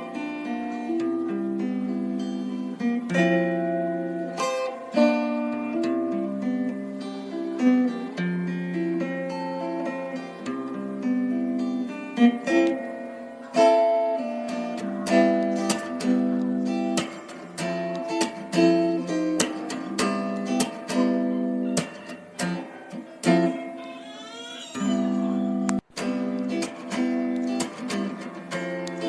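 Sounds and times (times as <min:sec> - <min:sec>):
acoustic guitar strumming and plucking: 0:00.0 - 0:29.0.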